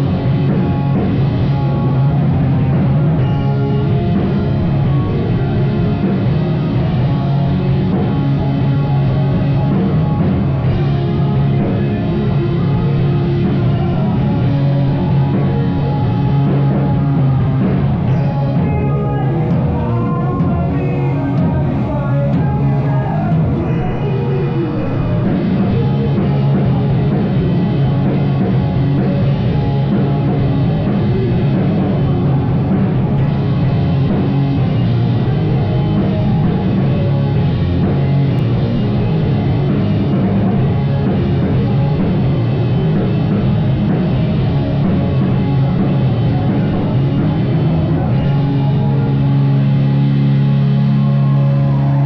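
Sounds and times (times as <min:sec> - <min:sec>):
drum kit: 0:00.0 - 0:52.0
rock band playing live: 0:00.0 - 0:52.0.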